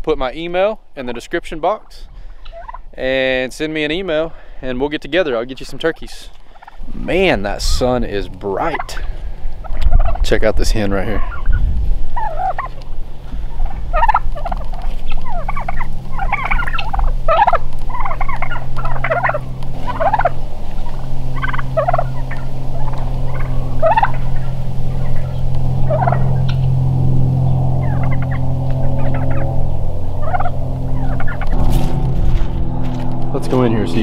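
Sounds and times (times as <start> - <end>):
steady low hum: 0.0 - 34.0
turkeys gobbling: 1.0 - 33.5.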